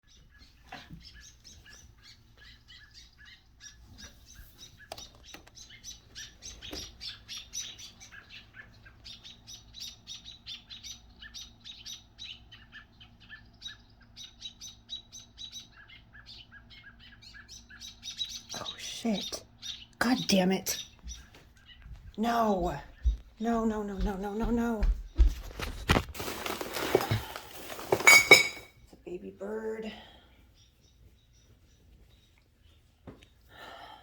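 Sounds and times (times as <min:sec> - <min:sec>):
small birds chirping rapidly: 0:00.0 - 0:25.9, 0:29.0 - 0:34.0.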